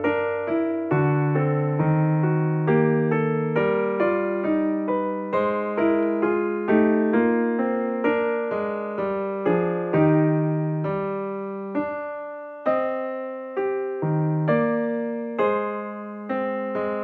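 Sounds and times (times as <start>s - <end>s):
slow piano notes: 0.0s - 17.0s.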